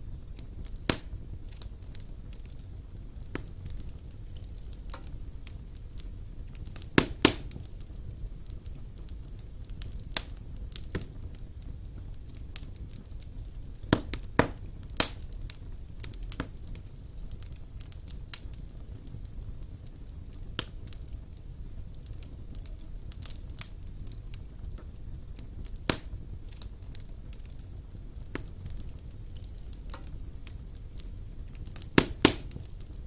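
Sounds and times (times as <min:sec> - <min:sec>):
fire crackling and popping: 0:00.0 - 0:33.0
fire rumbling: 0:00.0 - 0:33.0.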